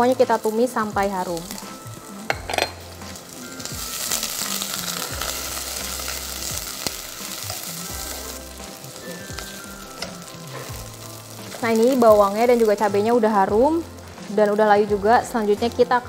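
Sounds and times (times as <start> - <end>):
soft background music: 0.0 - 16.0
vegetables sizzling in hot oil: 0.0 - 16.0.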